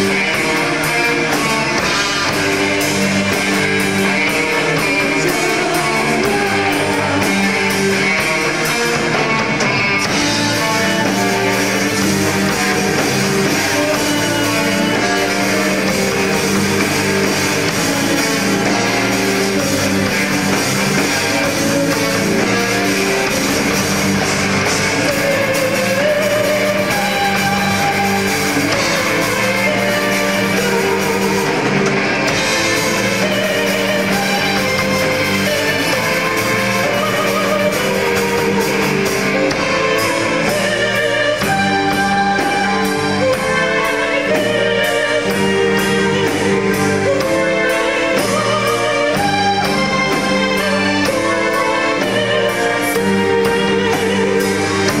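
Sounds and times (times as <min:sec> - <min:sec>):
drum kit: 0:00.0 - 0:55.0
electric guitar: 0:00.0 - 0:55.0
keyboard: 0:00.0 - 0:55.0.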